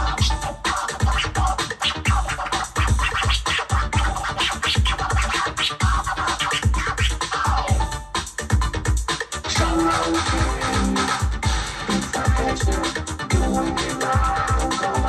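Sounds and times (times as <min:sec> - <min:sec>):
electro-funk drum machine beat: 0:00.0 - 0:15.0
turntable scratching: 0:00.0 - 0:15.0.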